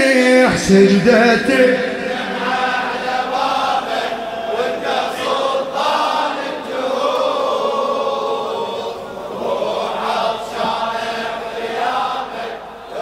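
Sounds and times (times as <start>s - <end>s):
men chanting together: 0.5s - 13.0s.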